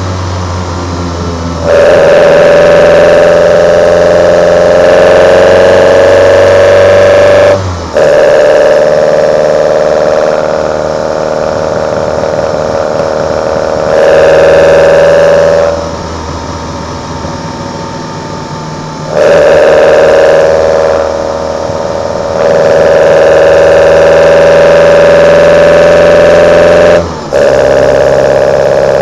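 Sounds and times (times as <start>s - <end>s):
engine intake roar under throttle: 0.0s - 29.0s.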